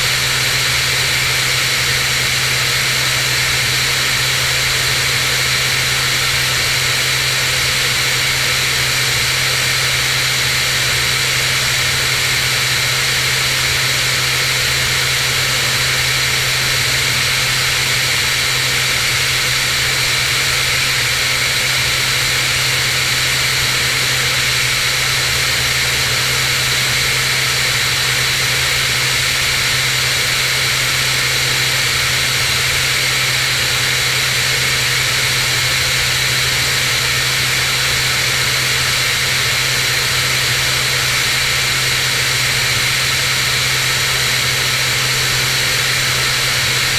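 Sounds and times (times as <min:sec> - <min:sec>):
propeller plane engine drone: 0:00.0 - 0:46.9.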